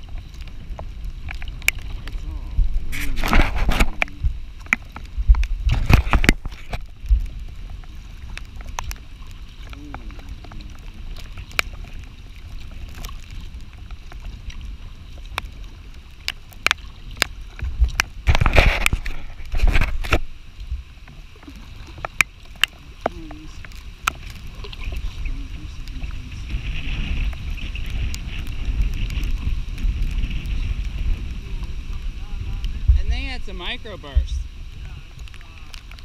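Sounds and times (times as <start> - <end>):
river hiss: 0.0 - 36.0
wind buffeting the microphone: 0.0 - 36.0.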